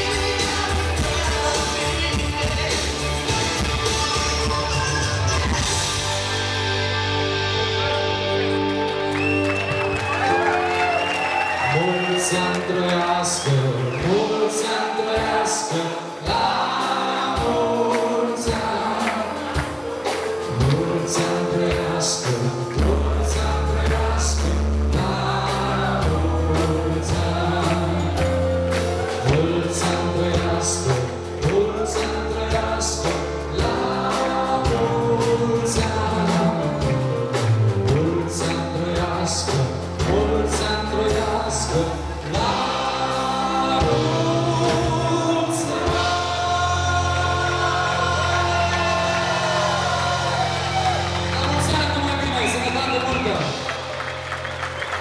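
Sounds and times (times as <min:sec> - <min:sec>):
deep bass line: 0:00.0 - 0:11.0, 0:16.3 - 0:54.3
choral music over sound system: 0:00.0 - 0:55.0.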